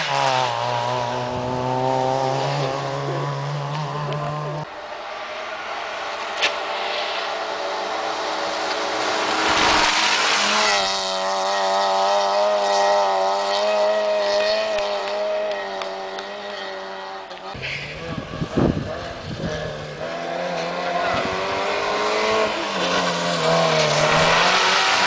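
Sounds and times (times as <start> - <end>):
rally car engine at high revs: 0.0 - 4.7, 7.3 - 25.0.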